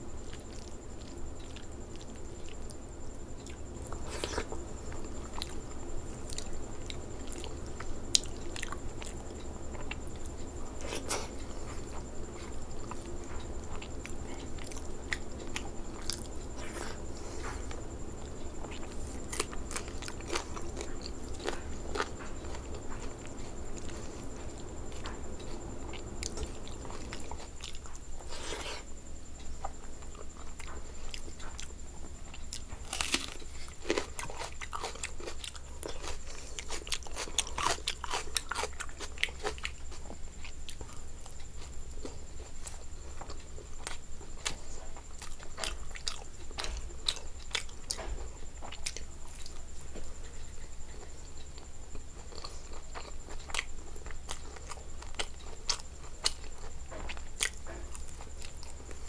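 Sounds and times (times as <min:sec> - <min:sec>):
person chewing and crunching food: 0:00.2 - 0:59.0.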